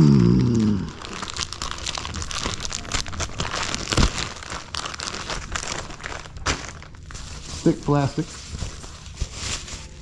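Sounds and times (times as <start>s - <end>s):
plastic packing wrap crinkling: 0.2s - 10.0s.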